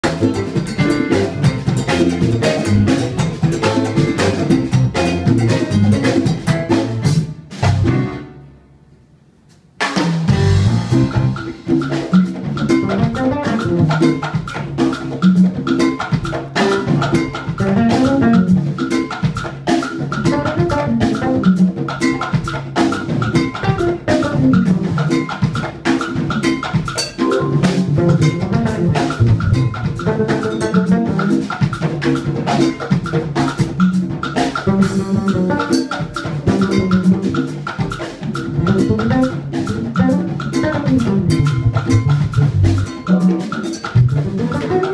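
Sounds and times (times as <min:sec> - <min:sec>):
latin jazz band playing: 0:00.0 - 0:08.9, 0:09.6 - 0:44.9.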